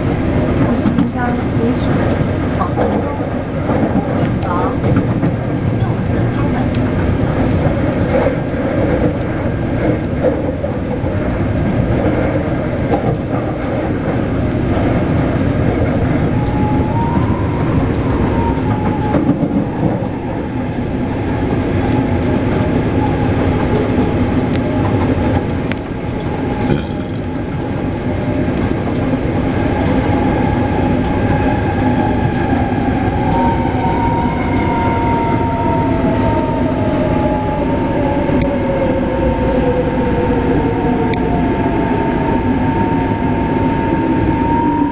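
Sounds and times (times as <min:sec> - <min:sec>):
train clickety-clack: 0:00.0 - 0:44.9
train wheel and rail rumble: 0:00.0 - 0:44.9.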